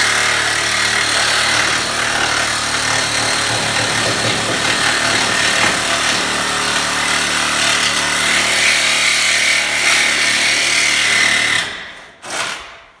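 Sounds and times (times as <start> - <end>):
power tool cutting steel: 0.0 - 11.7.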